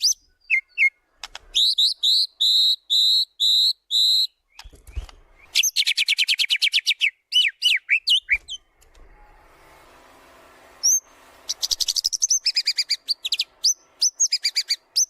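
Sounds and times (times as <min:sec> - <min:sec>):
songbird whistling and rattling: 0:00.0 - 0:08.7, 0:10.8 - 0:15.0.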